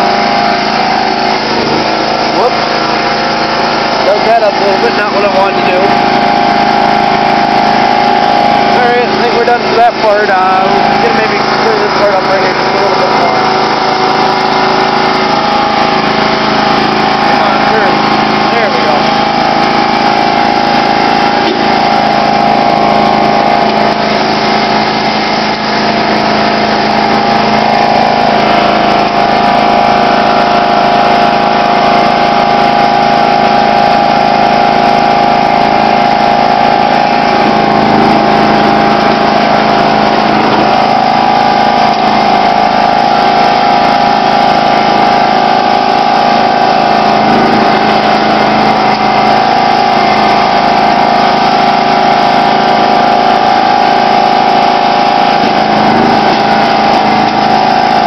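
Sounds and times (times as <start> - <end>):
lawn tractor engine running: 0.0 - 58.0.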